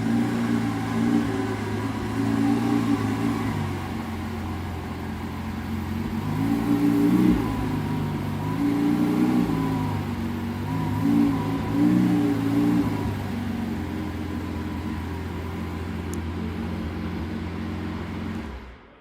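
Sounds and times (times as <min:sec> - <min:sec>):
car engine idling with throttle blips: 0:00.0 - 0:19.0.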